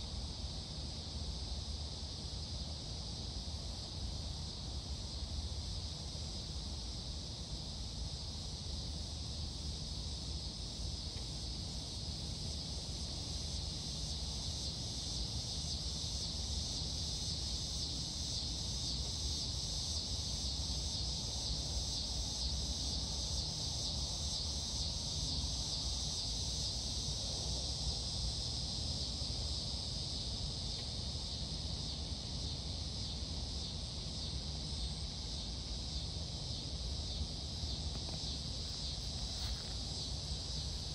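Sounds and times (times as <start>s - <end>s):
insects trilling: 5.0s - 40.9s.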